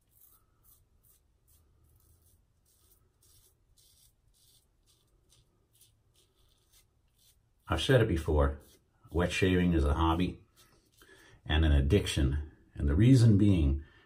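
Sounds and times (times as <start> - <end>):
razor scraping stubble: 0.0 - 12.1.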